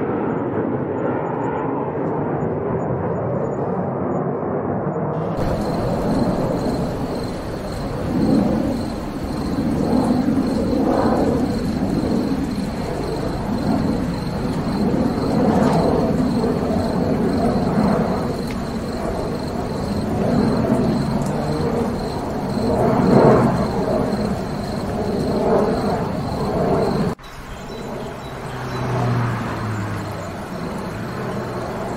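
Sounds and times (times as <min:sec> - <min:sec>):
jet engine high whine: 0:00.0 - 0:31.9
jet engine rumble: 0:05.2 - 0:31.9.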